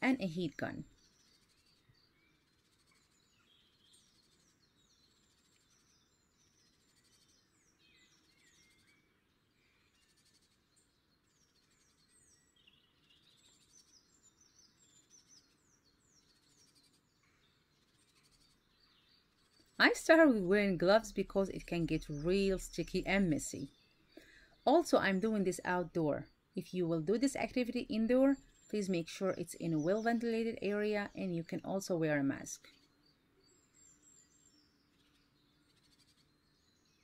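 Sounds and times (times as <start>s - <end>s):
faint songbirds chirping: 0.0s - 37.0s.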